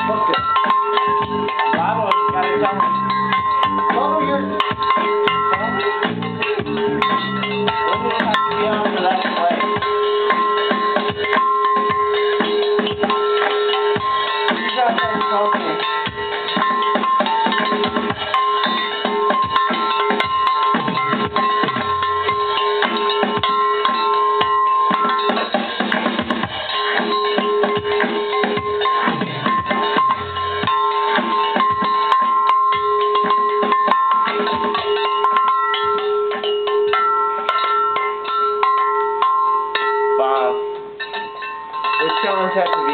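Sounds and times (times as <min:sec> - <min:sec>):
guitar: 0:00.0 - 0:37.5
held keyboard notes: 0:00.0 - 0:41.0
drum kit: 0:00.0 - 0:42.9.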